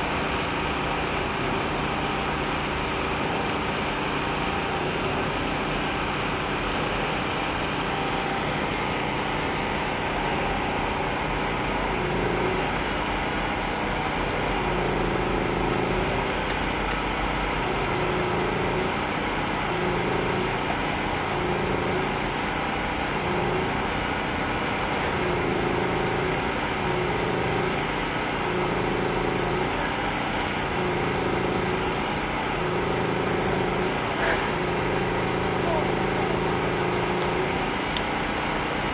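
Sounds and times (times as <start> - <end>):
throbbing engine drone: 0.0 - 38.9.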